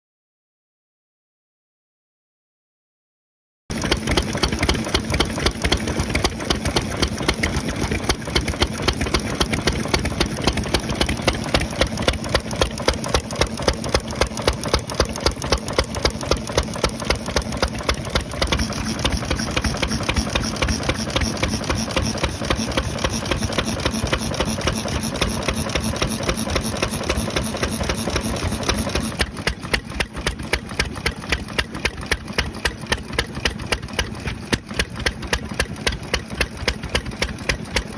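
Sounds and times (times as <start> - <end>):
stationary engine idling: 3.7 - 37.9.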